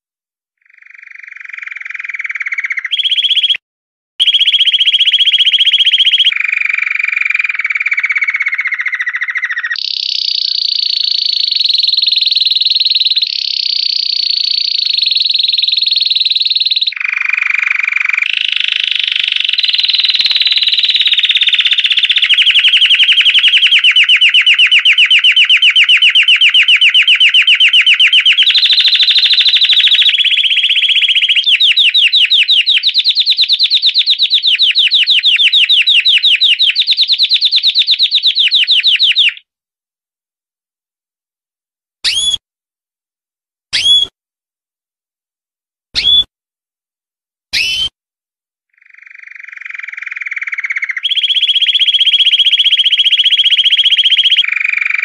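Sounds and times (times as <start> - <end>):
canary singing high trills: 0.6 - 3.6, 4.2 - 39.4, 42.0 - 42.4, 43.8 - 44.1, 46.0 - 46.3, 47.5 - 47.9, 48.8 - 55.0.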